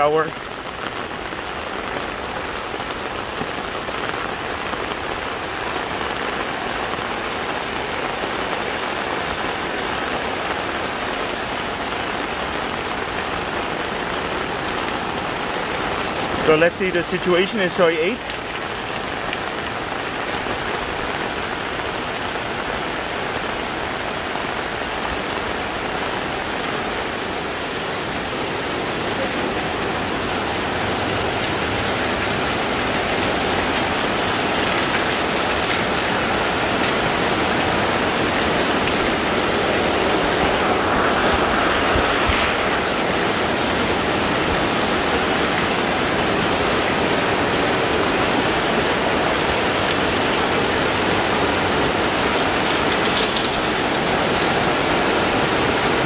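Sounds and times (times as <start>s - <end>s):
heavy rain on umbrella: 0.0s - 56.0s.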